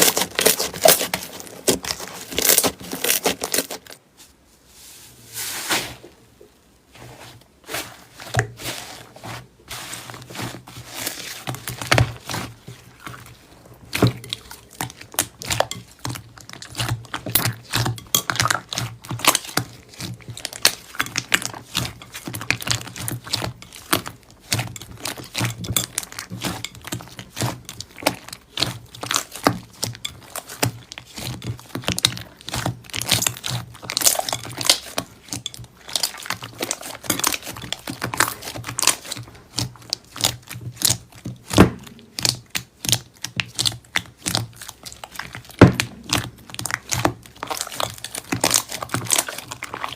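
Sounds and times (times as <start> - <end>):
slime crackling and popping: 0.0 - 4.0, 10.0 - 49.9.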